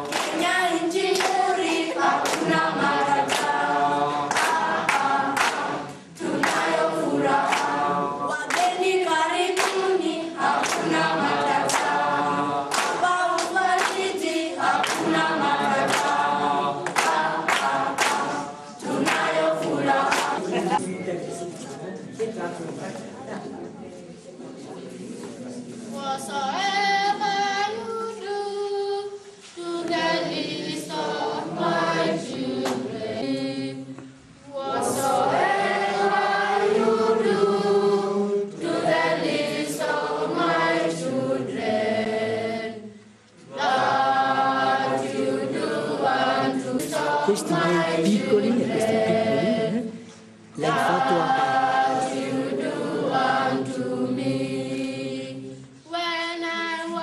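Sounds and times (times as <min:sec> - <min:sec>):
children's choir singing: 0:00.0 - 0:22.3, 0:24.6 - 0:57.0.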